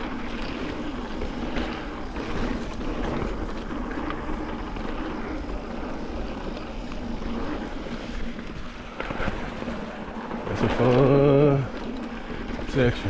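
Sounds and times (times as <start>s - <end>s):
bike clicks and rattles: 0.0s - 13.0s
bike tyres rolling on dirt: 0.0s - 13.0s.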